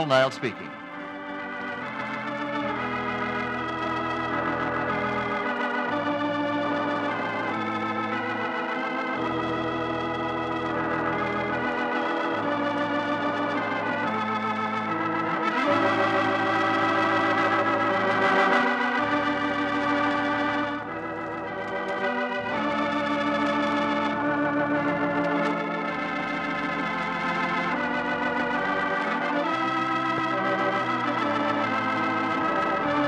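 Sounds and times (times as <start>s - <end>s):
organ music with held chords: 0.0s - 33.0s.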